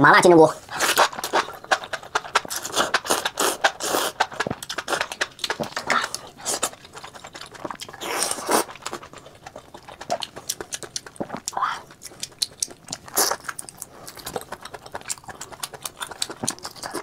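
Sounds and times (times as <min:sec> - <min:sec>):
slurping mushrooms: 0:00.6 - 0:17.0
wet chewing with clicks and smacks: 0:00.7 - 0:17.0.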